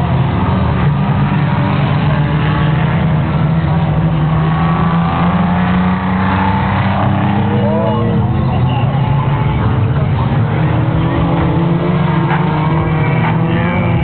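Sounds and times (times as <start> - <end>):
engine revving: 0.0 - 8.4, 9.5 - 14.0
race car engines droning: 0.0 - 14.0.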